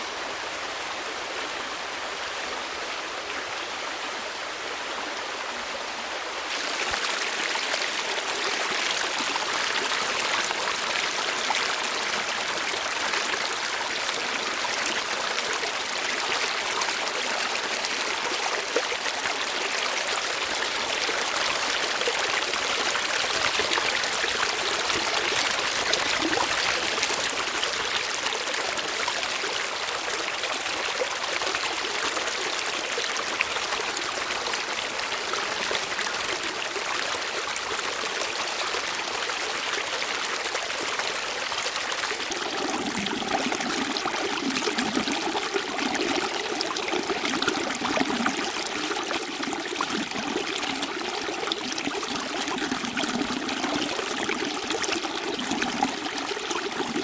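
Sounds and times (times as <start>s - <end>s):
stream water trickling: 6.3s - 57.0s
water bubbling gurgle: 6.5s - 57.0s.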